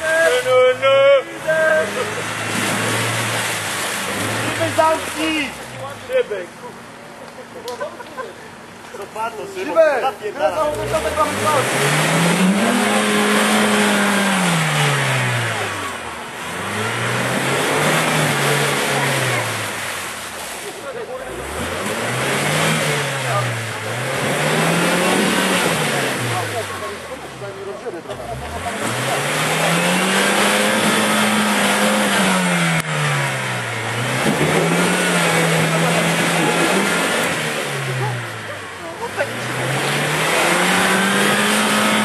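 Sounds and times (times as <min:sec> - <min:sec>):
wheels churning through mud: 0:00.0 - 0:06.7, 0:10.4 - 0:42.0
car engine revving: 0:00.0 - 0:06.8, 0:10.5 - 0:42.0.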